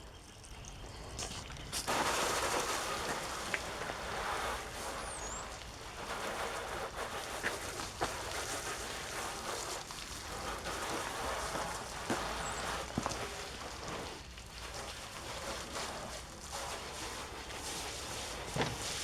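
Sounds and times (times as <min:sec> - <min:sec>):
garden hose spraying water: 0:00.0 - 0:19.0.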